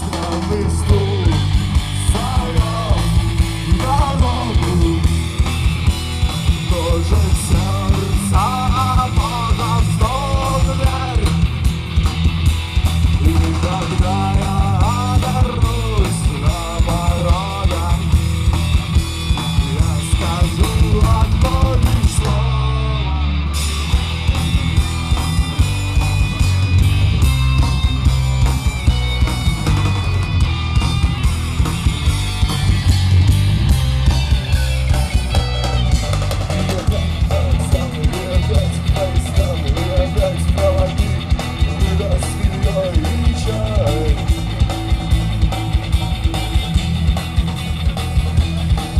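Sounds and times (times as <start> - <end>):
rock music with guitar and drums: 0.0 - 48.9.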